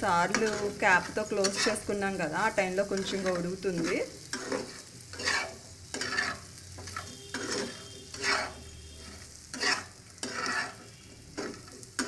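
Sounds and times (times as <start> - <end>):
light sizzle of frying: 0.0 - 12.0
spatula scraping a pan: 0.1 - 12.0.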